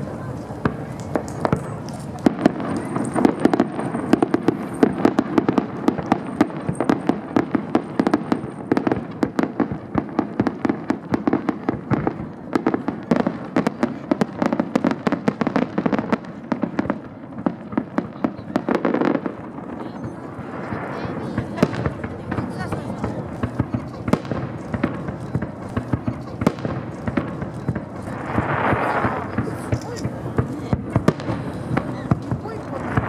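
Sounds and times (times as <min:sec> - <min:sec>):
fireworks banging: 0:00.0 - 0:33.0.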